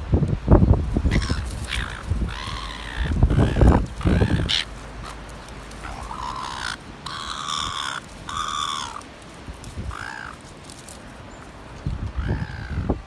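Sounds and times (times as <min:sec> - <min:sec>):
seagulls calling: 0:01.0 - 0:13.0.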